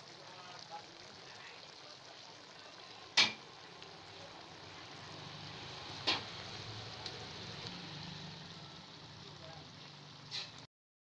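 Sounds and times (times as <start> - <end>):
food sizzling in a wok: 0.0 - 10.7.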